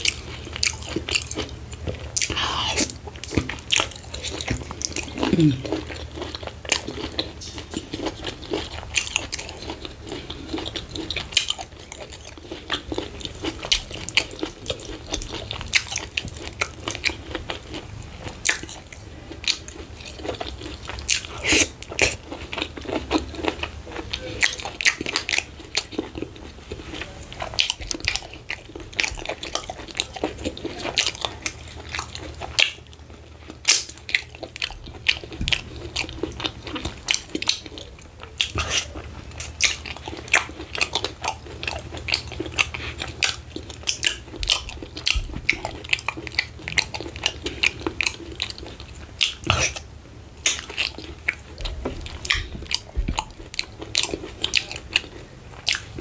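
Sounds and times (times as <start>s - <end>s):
chewing and lip-smacking: 0.0s - 56.0s.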